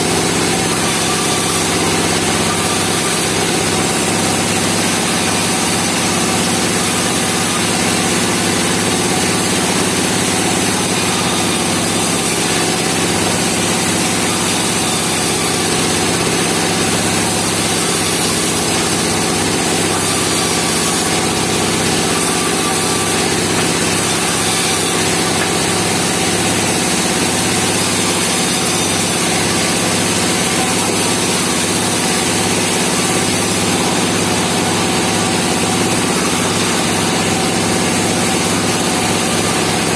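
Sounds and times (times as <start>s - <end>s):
band sawmill sawing timber: 0.0s - 39.9s.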